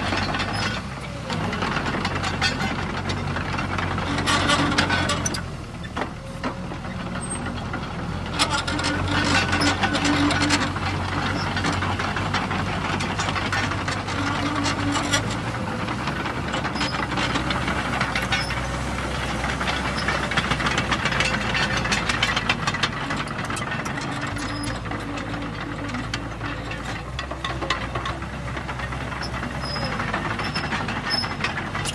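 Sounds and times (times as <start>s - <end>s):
excavator diesel engine running: 0.0s - 31.9s
sharp clicks and knocks: 0.0s - 31.9s.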